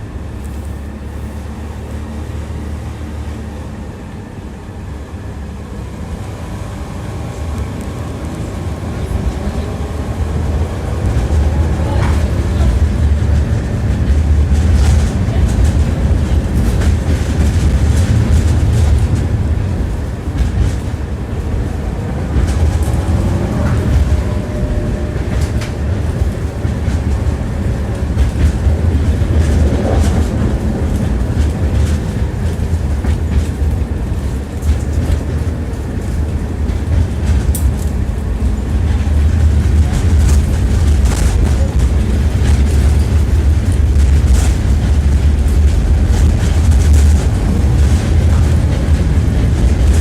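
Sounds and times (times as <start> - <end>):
tram rumbling on track: 0.0 - 50.0.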